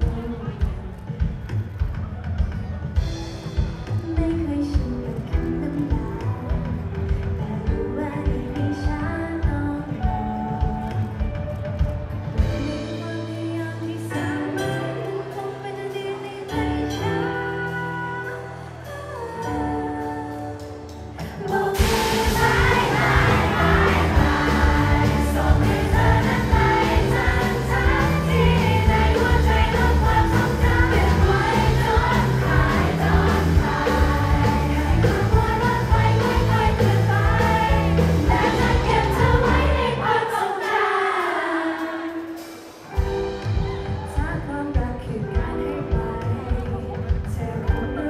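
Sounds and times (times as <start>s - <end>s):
band with keyboard and guitar: 0.0s - 48.0s
women singing a pop ballad: 4.1s - 10.9s, 12.5s - 42.4s, 44.0s - 48.0s.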